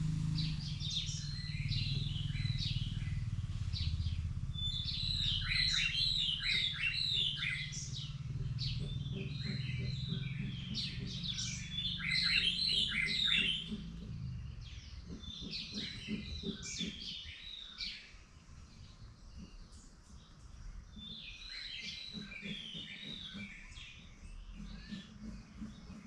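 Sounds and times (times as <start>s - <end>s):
low steady rumble: 0.0s - 26.0s
small birds chirping: 0.0s - 26.0s.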